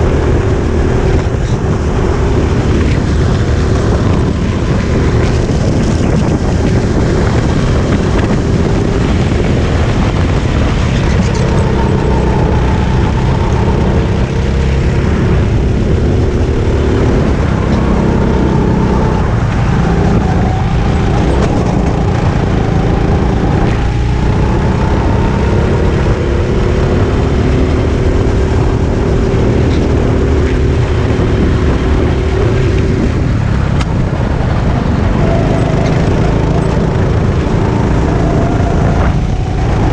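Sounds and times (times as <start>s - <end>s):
go-kart engine running hard: 0.0s - 39.9s
steady rushing noise: 0.0s - 39.9s.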